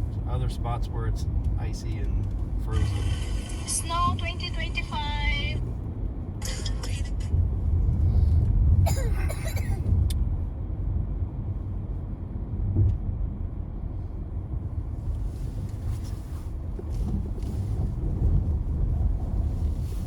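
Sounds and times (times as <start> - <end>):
car rumbling from inside cabin: 0.0 - 20.0.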